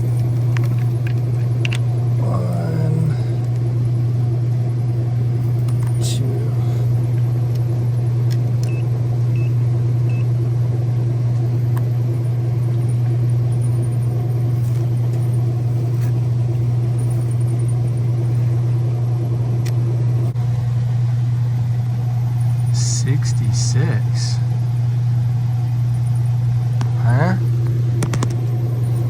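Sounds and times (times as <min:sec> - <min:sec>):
dishwasher motor humming: 0:00.0 - 0:29.0.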